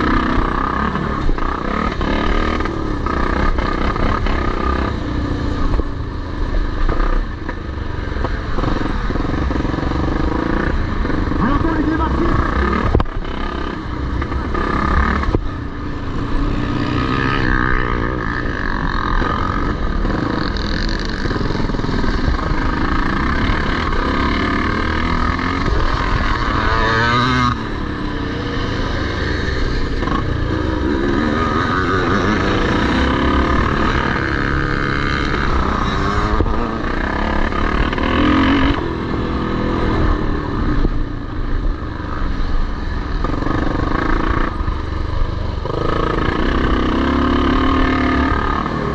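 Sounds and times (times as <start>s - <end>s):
motocross motorcycles revving: 0.0s - 48.9s.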